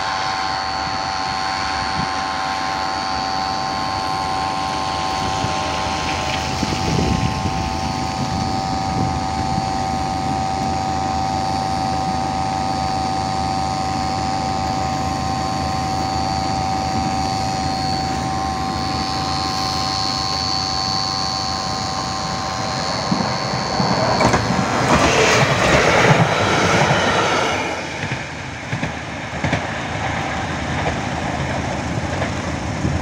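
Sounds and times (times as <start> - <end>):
level crossing warning signal: 0.0 - 32.0
train passing: 0.0 - 33.0.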